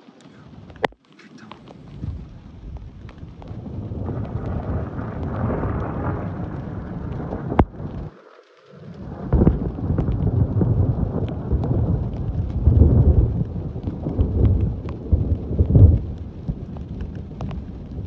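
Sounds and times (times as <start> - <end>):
thunder rumbling: 0.0 - 18.0.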